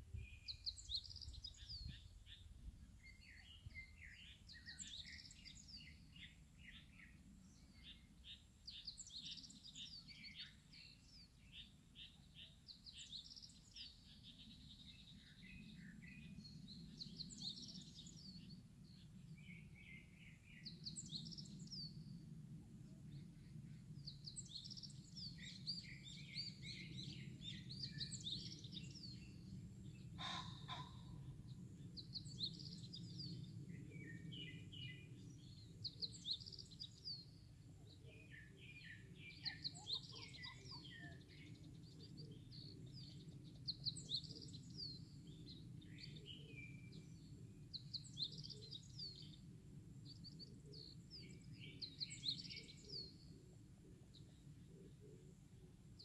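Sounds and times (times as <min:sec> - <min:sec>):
low background noise: 0:00.0 - 0:56.0
songbirds chirping and trilling: 0:00.0 - 0:56.0.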